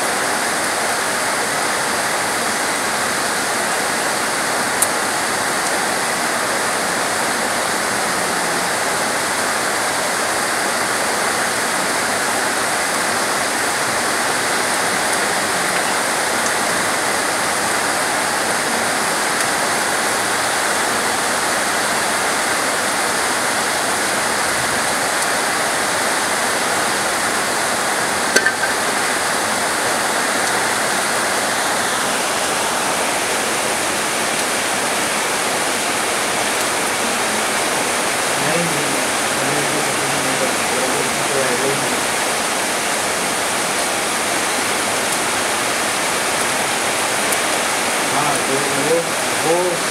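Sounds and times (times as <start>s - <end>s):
heavy rain on foliage: 0.0s - 49.9s.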